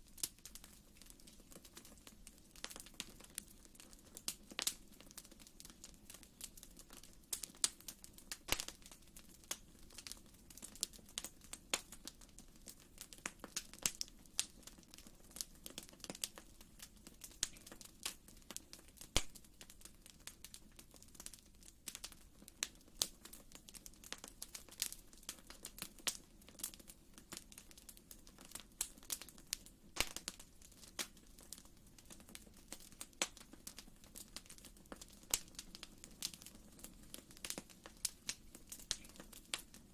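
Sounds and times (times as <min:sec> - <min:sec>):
soft low background noise: 0:00.0 - 0:39.9
wood fire crackling: 0:00.0 - 0:39.9.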